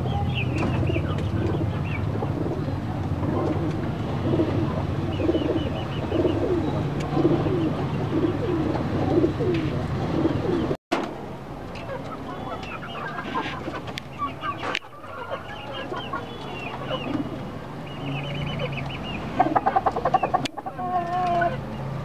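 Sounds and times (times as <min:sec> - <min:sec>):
pigeons cooing: 0:00.6 - 0:10.8, 0:11.8 - 0:21.7.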